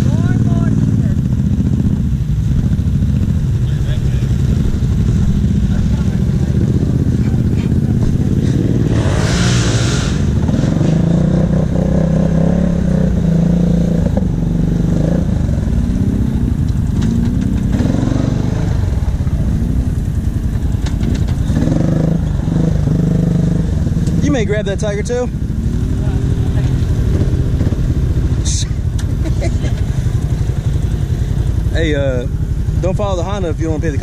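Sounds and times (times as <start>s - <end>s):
atv engines idling and revving: 0.0s - 34.0s.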